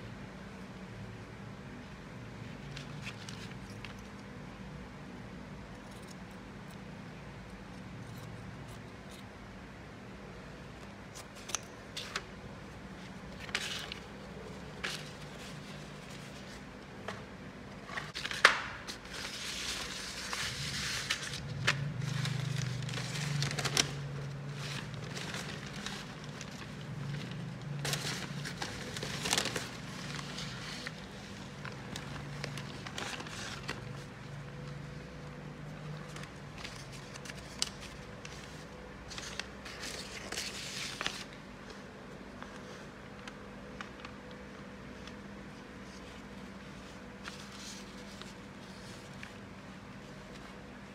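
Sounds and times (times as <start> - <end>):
low steady hum: 0.0 - 50.9
paper rustling and crinkling: 2.4 - 4.3, 10.8 - 50.7.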